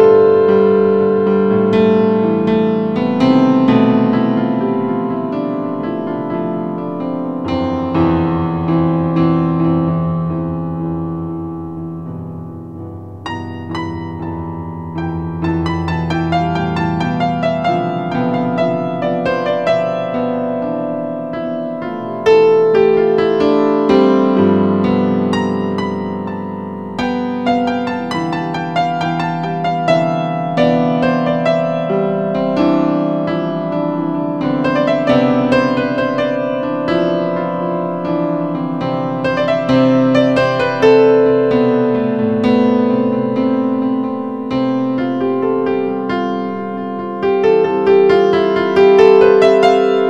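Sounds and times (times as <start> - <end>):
electro-acoustic piano music: 0.0 - 50.0.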